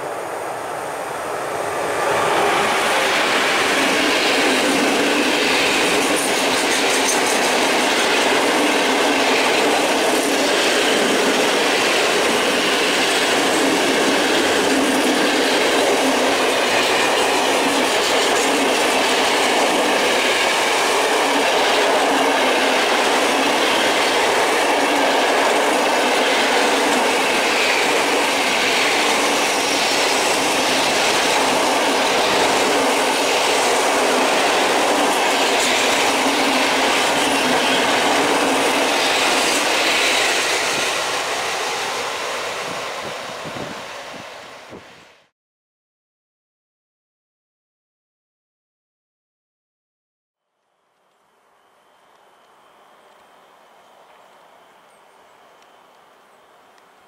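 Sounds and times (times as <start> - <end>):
train wheels running on rails: 0.0 - 45.0, 51.0 - 57.0.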